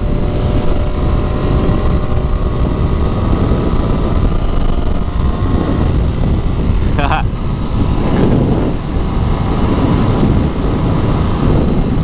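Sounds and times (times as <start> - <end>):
motorcycle engine cruising: 0.0 - 12.0
wind rushing: 0.0 - 12.0.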